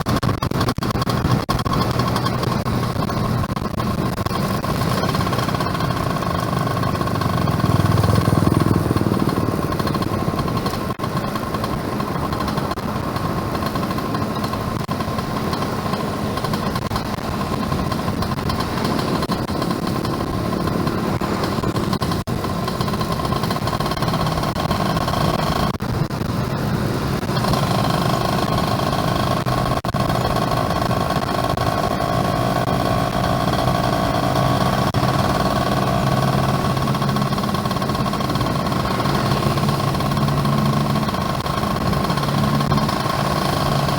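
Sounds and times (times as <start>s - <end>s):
two-stroke motorcycle engine running: 0.0s - 43.9s.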